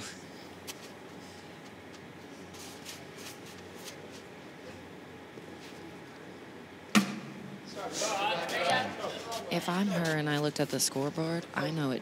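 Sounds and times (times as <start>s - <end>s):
quiet background hum: 0.0s - 12.0s.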